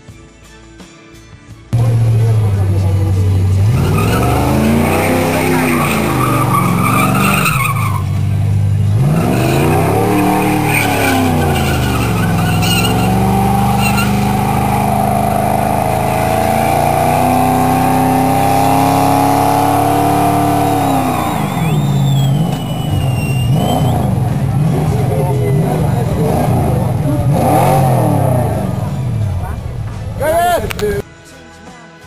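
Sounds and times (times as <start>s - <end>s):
car engine revving: 1.8s - 31.0s
tyres squealing on concrete: 3.6s - 29.3s.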